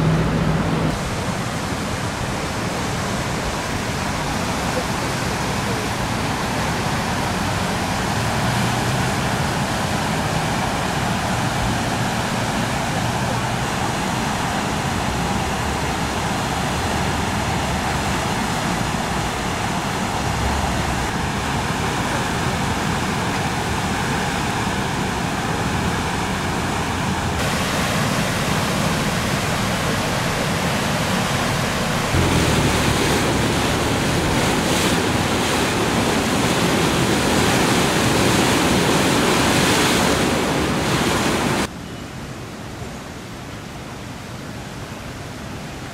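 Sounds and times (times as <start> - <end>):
rush of floodwater: 0.0 - 45.9.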